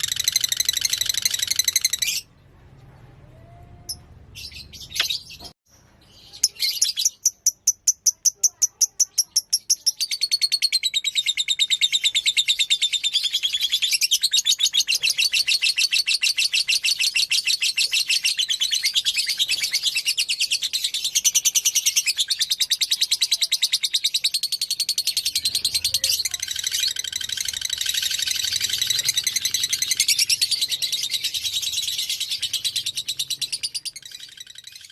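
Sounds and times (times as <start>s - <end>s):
lower-pitched bird chatter: 6.1s - 34.9s
lovebird chattering song: 6.2s - 34.9s.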